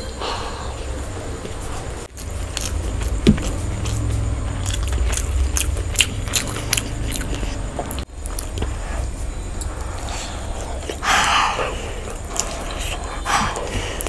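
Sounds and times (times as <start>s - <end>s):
low rumble: 0.1s - 14.0s
person biting and chewing food: 2.1s - 14.0s.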